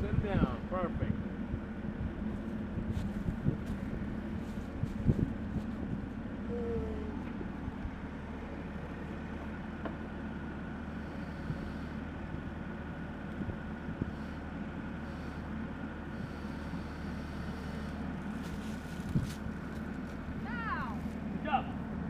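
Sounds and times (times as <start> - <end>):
excavator engine humming: 0.0 - 22.0.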